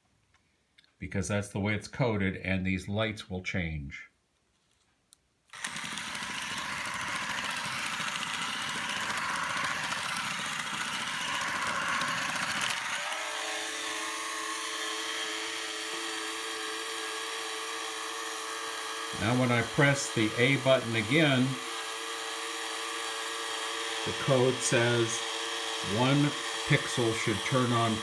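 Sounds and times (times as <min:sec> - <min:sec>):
small gear motors whirring: 0:05.5 - 0:28.0.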